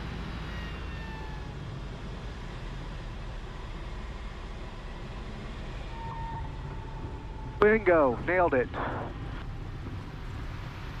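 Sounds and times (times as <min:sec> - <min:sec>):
airplane engine at low power: 0:00.0 - 0:11.0.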